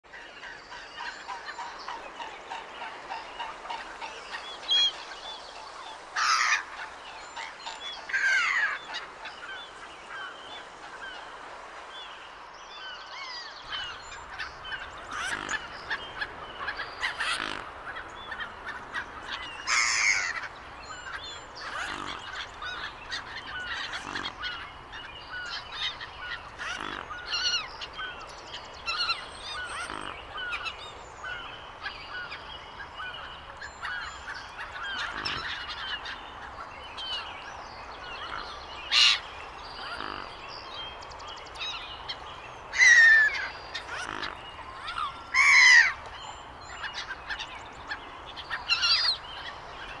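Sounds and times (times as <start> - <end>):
gulls calling: 0.2 - 11.9, 13.0 - 50.0.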